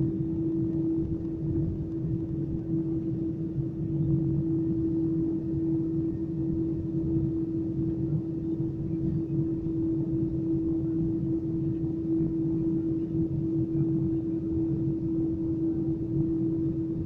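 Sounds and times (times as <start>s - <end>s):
constant engine hum: 0.0s - 17.0s
low airplane cabin rumble: 0.0s - 17.0s.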